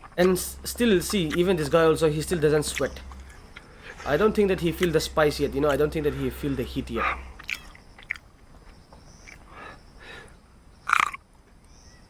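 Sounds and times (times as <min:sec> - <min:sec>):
chewing and mouth noises: 0:00.0 - 0:11.3.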